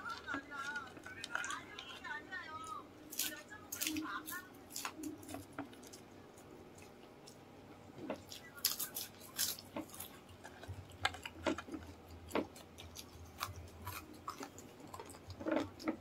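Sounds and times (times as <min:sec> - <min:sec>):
chewing and mouth clicks: 0:00.0 - 0:16.0.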